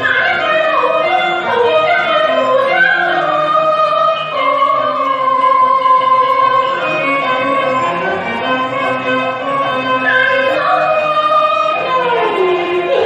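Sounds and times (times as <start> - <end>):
opera music with sliding notes: 0.0 - 13.0.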